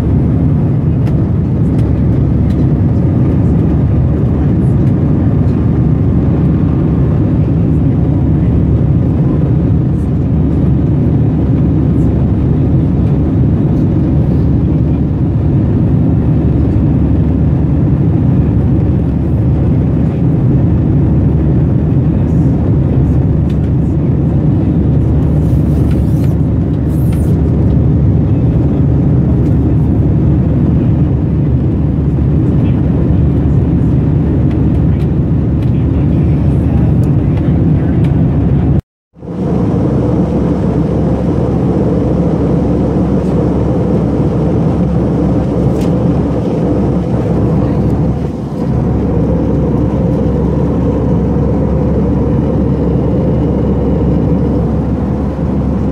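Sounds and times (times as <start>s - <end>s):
jet airliner cabin rumble: 0.0s - 55.9s.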